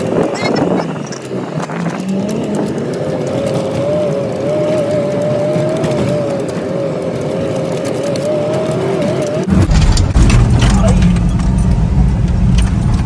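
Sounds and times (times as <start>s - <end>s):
vehicle driving on dirt track: 0.0s - 13.0s.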